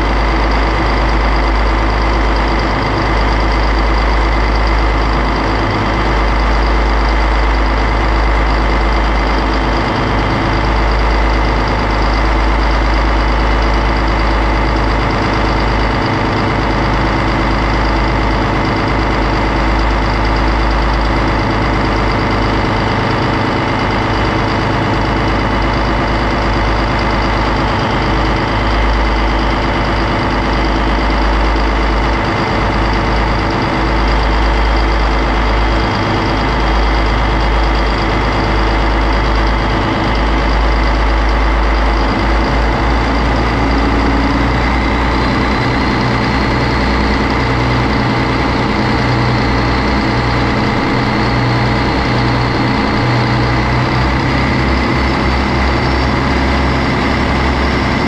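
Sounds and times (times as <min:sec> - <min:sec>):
diesel engine running: 0:00.0 - 0:58.0
high turbo whine: 0:00.0 - 0:58.0.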